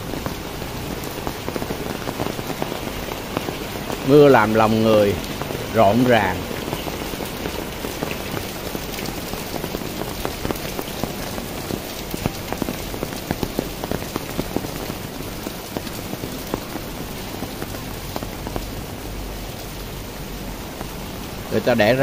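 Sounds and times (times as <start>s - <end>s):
hiss of downpour: 0.0s - 22.0s
rain drops tapping an umbrella: 0.0s - 22.0s.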